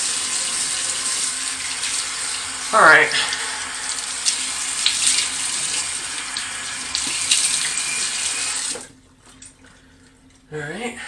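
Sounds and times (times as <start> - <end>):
tap water running into sink: 0.0 - 9.6.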